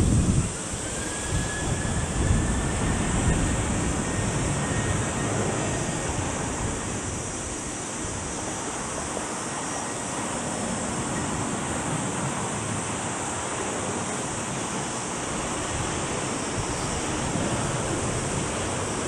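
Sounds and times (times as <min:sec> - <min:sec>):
faint jet engine whine: 0:00.0 - 0:19.0
rushing jet engine noise: 0:00.0 - 0:19.0
wind gusts on microphone: 0:00.0 - 0:19.0.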